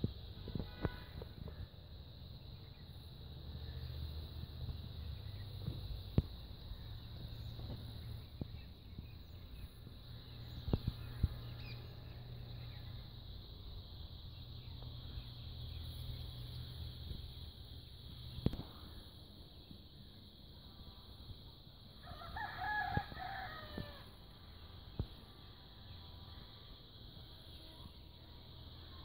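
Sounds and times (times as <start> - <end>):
insect chirring: 0.0 - 29.0.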